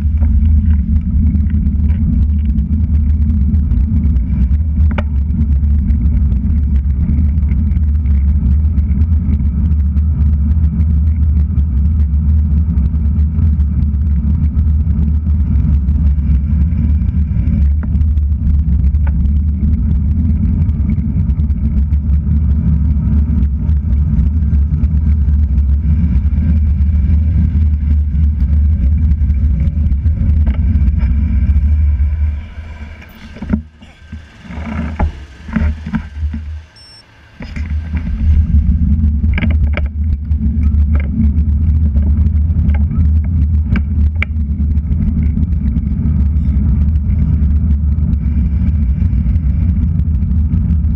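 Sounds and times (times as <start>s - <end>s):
wind and road noise rumble: 0.0s - 50.9s.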